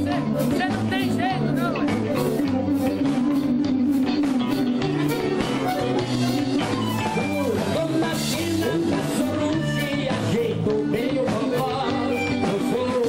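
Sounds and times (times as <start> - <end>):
accordion melody: 0.0 - 13.0
bass: 0.0 - 13.0
drum kit beat: 0.0 - 13.0
guitar: 0.0 - 13.0.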